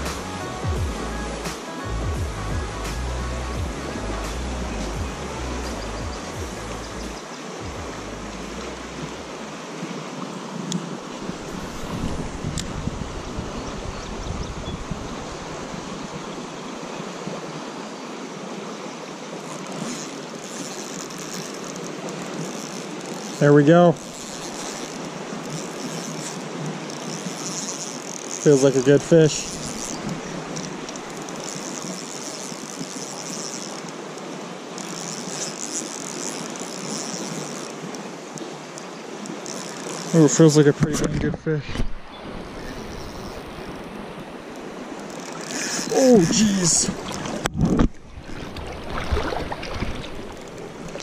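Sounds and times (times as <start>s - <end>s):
fast river rushing: 0.0s - 51.0s.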